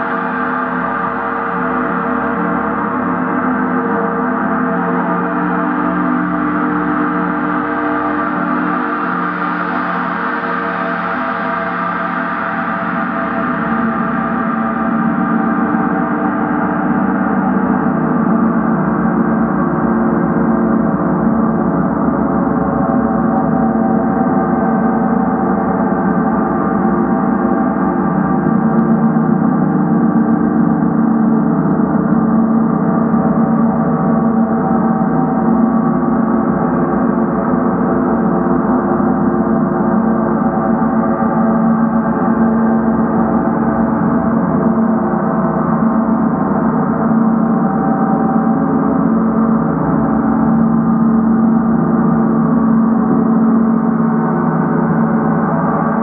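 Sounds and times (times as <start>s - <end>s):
gongs sustained tones: 0.0s - 56.0s.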